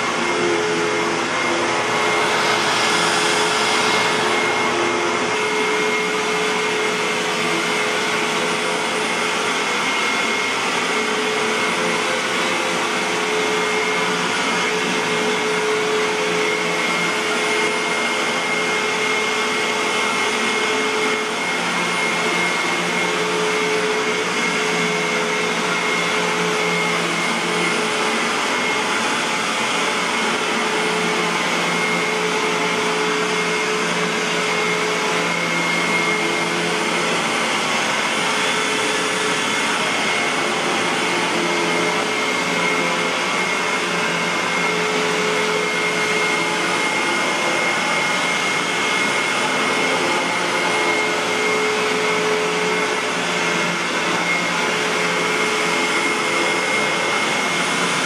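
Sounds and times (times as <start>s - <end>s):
vacuum cleaner running on carpet: 0.0s - 58.0s.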